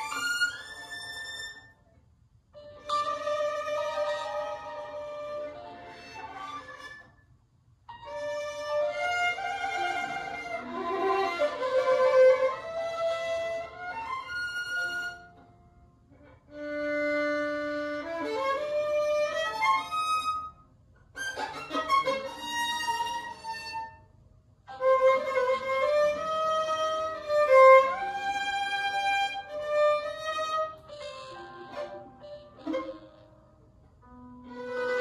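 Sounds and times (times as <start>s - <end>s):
solo violin playing slow piece: 0.0s - 1.8s, 2.6s - 7.1s, 7.9s - 15.5s, 16.2s - 20.6s, 21.2s - 24.0s, 24.7s - 33.5s, 34.1s - 35.0s.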